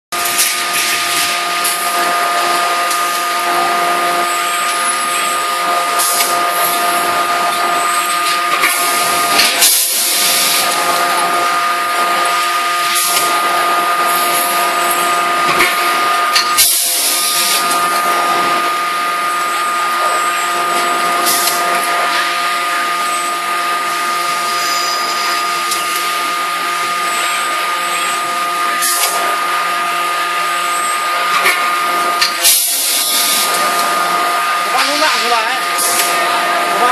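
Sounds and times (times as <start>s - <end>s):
hydraulic machine whine and hiss: 0.2s - 36.9s.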